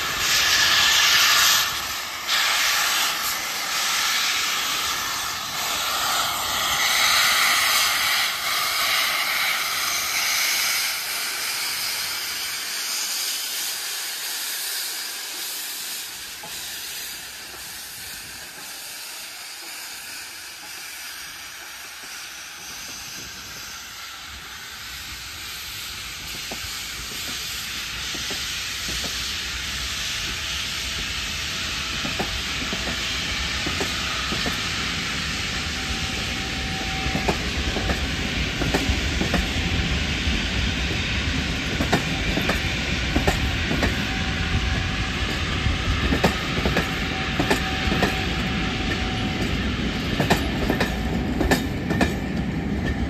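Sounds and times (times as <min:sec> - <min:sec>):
steam locomotive hissing: 0:00.0 - 0:53.0
train coaches rumbling past: 0:00.0 - 0:53.0.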